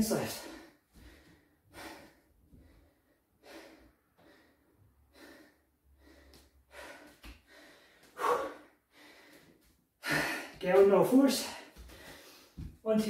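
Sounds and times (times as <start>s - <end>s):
man panting: 0.2s - 12.8s.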